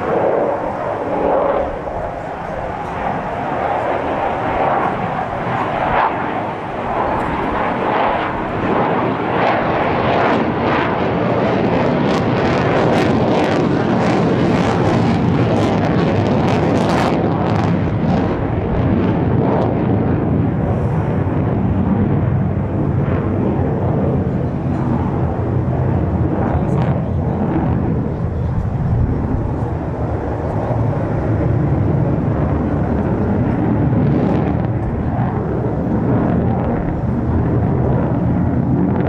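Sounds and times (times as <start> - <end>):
jet engine in afterburner: 0.0 - 39.0.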